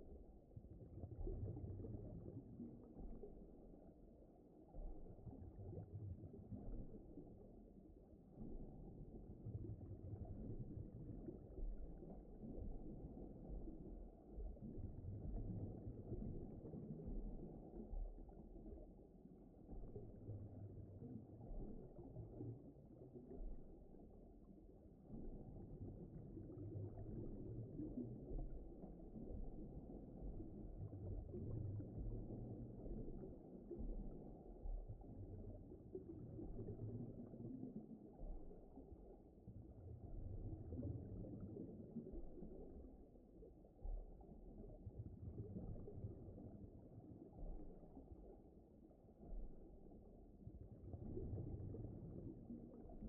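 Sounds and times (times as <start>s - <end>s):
faint muffled low rumble: 0.0s - 53.0s.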